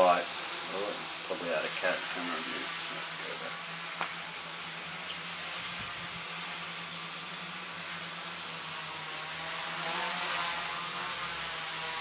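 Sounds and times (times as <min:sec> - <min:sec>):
electric motors humming and whining: 0:00.0 - 0:12.0.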